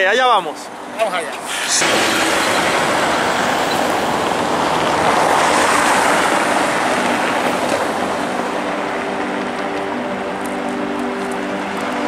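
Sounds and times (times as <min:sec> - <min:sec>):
passing car traffic: 0:00.0 - 0:12.0.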